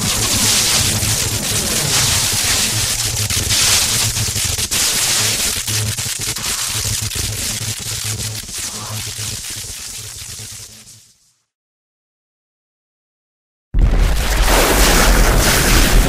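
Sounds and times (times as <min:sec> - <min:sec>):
electric sparks crackling: 0:00.0 - 0:11.4, 0:14.0 - 0:16.0.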